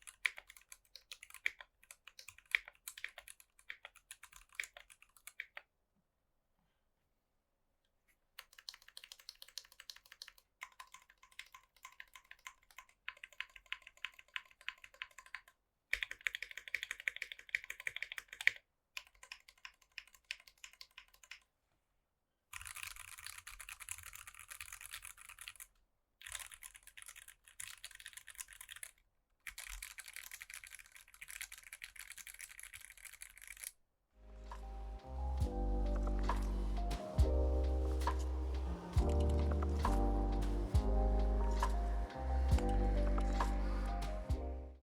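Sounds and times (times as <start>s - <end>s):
mechanical keyboard typing: 0.0s - 5.6s, 8.4s - 21.5s, 22.6s - 33.7s, 35.4s - 44.4s.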